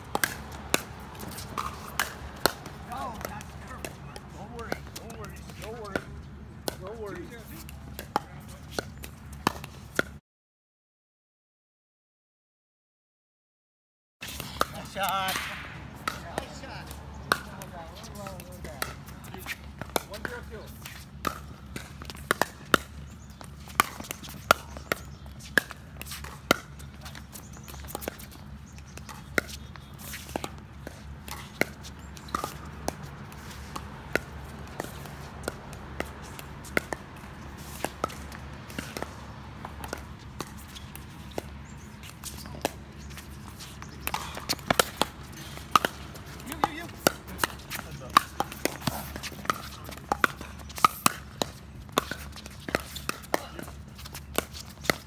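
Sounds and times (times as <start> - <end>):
paddles hitting plastic ball: 0.0 - 10.1, 14.4 - 55.0.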